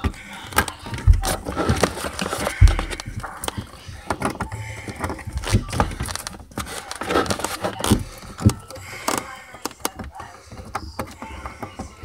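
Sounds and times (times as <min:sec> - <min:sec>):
plastic panels knocking and scraping: 0:00.0 - 0:12.0.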